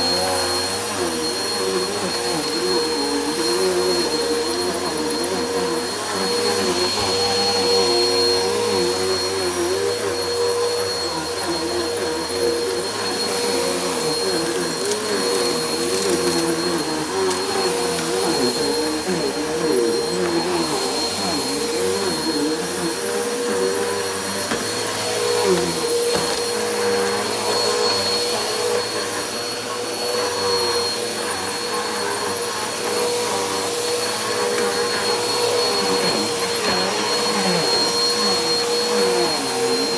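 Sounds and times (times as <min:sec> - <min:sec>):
upright vacuum cleaner on carpet: 0:00.0 - 0:39.9.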